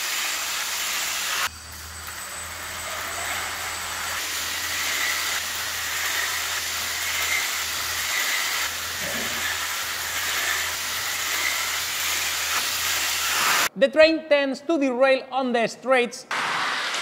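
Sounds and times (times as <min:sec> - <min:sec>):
toy train whirring on track: 0:00.0 - 0:13.7.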